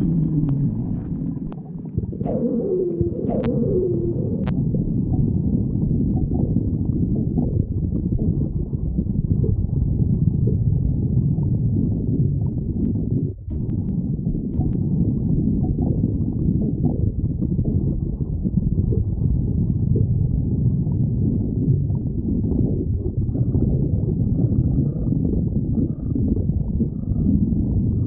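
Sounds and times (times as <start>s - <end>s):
stomach growling: 0.0s - 28.0s.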